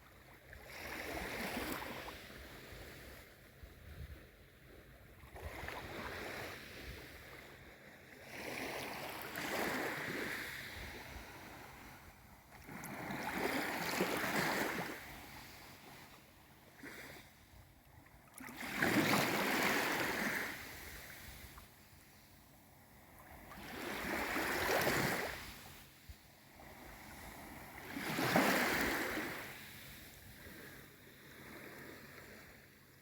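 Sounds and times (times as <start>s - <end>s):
small sea waves washing in: 0.0s - 17.6s, 18.2s - 33.0s.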